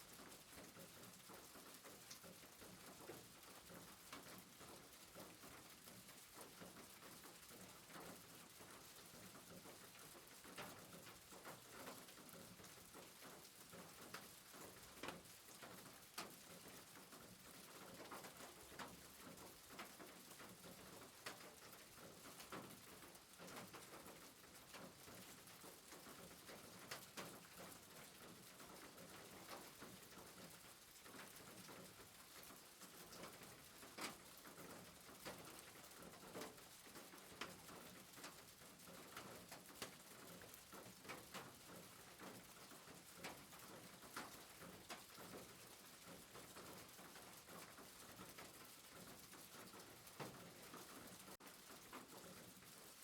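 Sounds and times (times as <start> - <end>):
soft rain: 0.0 - 53.0.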